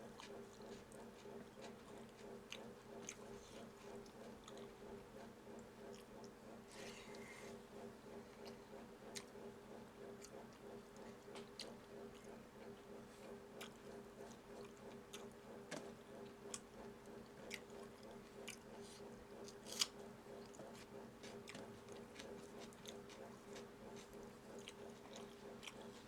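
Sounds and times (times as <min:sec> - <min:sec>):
person chewing and eating: 0:00.0 - 0:07.6, 0:08.2 - 0:09.5, 0:10.1 - 0:26.0.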